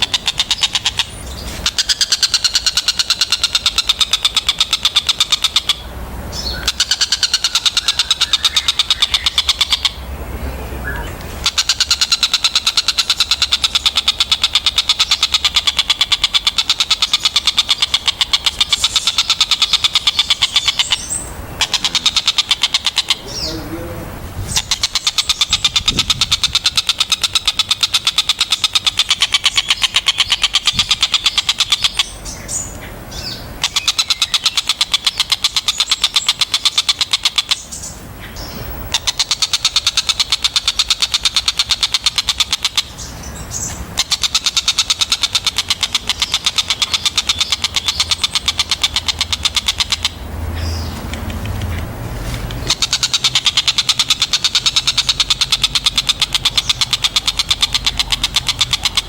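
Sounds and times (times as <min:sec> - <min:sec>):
kingfisher chattering trills: 0:00.0 - 0:51.9, 0:52.5 - 0:59.0.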